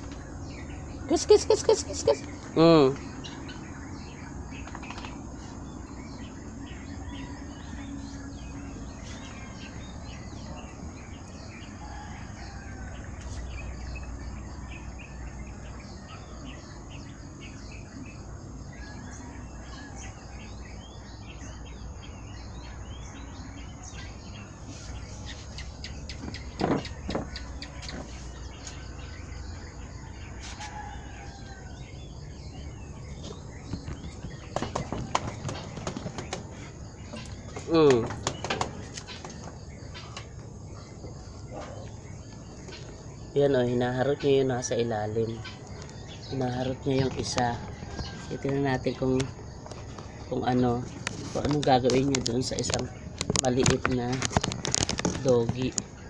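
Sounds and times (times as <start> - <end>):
insects trilling: 0.0 - 56.0
small birds chirping: 0.0 - 56.0.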